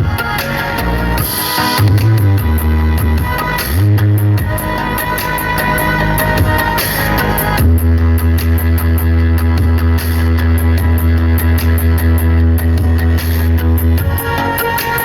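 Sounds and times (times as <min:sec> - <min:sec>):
heavy sustained bass: 0:00.0 - 0:15.0
loud music over sound system: 0:00.0 - 0:15.0.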